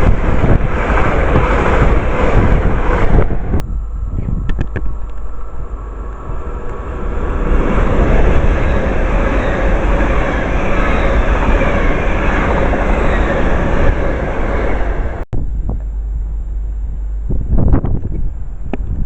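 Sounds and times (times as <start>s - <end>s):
wind buffeting microphone: 0.0s - 16.1s, 16.8s - 19.0s
train rumbling past: 0.0s - 19.0s.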